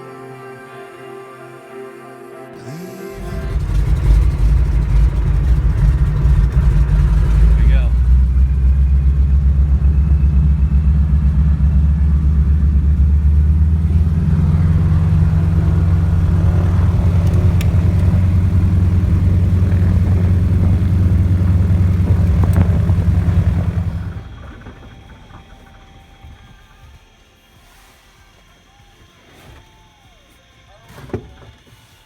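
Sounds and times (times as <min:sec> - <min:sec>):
low engine drone: 0:00.0 - 0:28.8.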